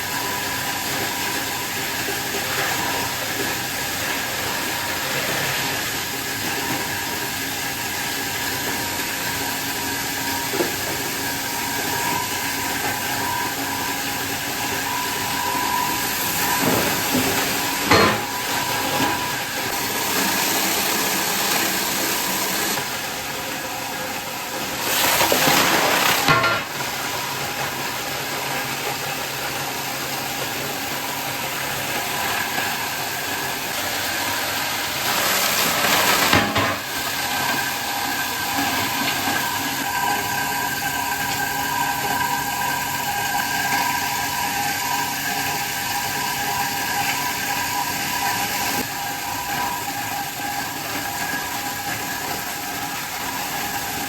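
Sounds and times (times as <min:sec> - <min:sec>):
factory machinery whining hum: 0:00.0 - 0:54.0.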